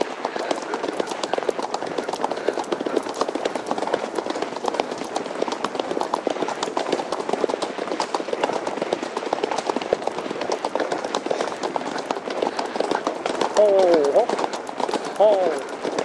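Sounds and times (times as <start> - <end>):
horses hoofbeats cantering: 0.0 - 16.0.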